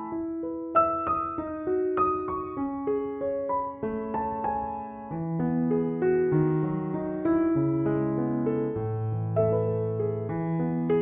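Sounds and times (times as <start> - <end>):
gentle piano notes: 0.0 - 11.0.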